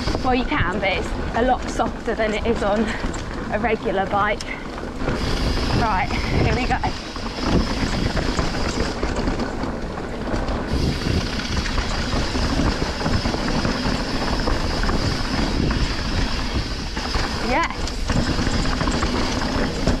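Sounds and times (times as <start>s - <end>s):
bike rattling and knocking: 0.0s - 20.0s
tyres rumbling on dirt: 0.0s - 20.0s
wind rushing over microphone: 0.0s - 20.0s.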